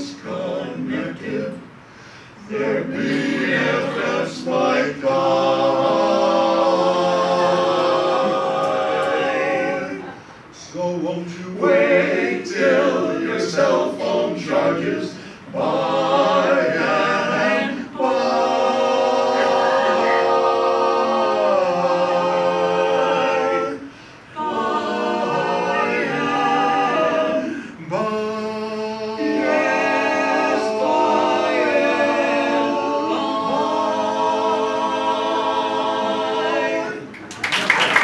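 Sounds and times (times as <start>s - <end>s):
men's chorus singing a cappella: 0.0s - 1.8s, 2.4s - 37.2s.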